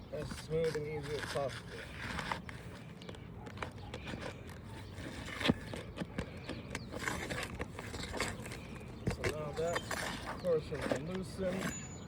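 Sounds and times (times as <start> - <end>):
pry bar scraping roof shingles: 0.2 - 11.9.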